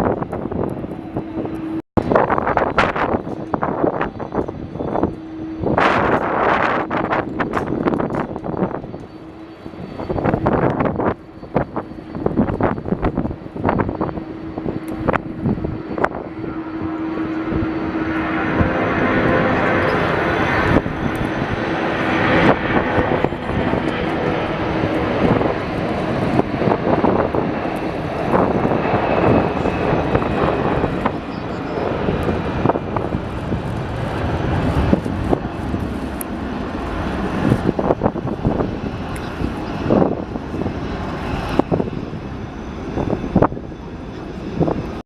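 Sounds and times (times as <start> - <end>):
jet engines roaring: 0.0 - 45.0
wind buffeting microphone: 0.0 - 45.0.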